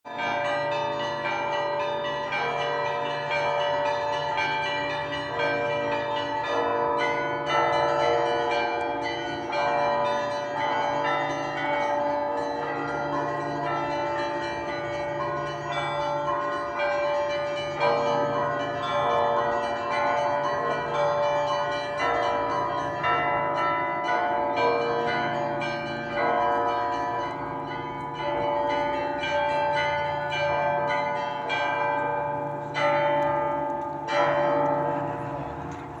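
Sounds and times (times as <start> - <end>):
church bells ringing: 0.0 - 36.0.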